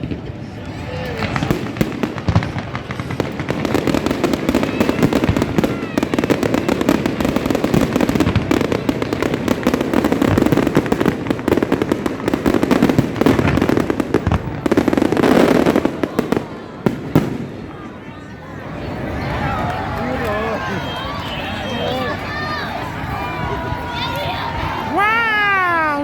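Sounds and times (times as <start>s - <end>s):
fireworks bursting and crackling: 0.0s - 21.6s.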